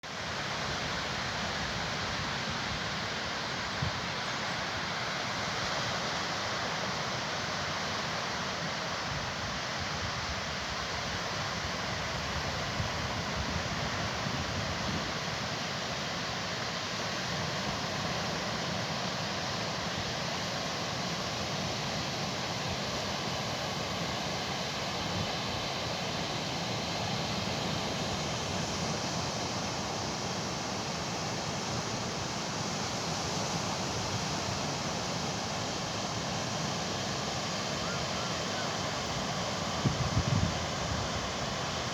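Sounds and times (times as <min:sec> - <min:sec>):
surf and breaking waves: 0:00.1 - 0:41.9.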